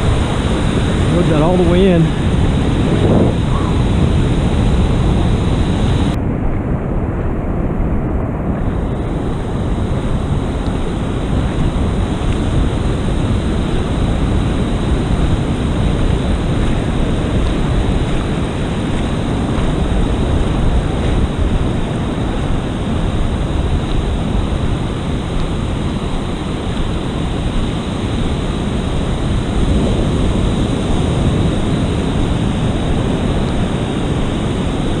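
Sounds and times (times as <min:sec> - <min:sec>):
breaking surf: 0:00.0 - 0:35.0
wind buffeting microphone: 0:00.0 - 0:35.0.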